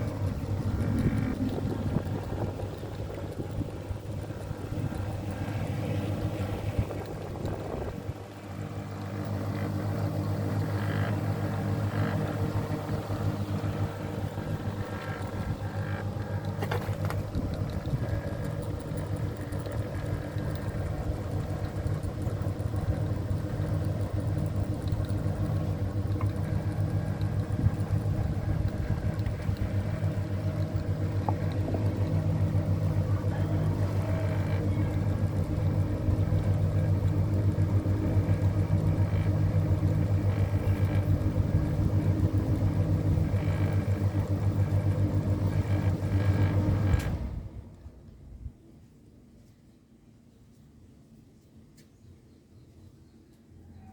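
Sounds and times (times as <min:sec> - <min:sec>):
ceiling fan motor humming: 0:00.0 - 0:49.5.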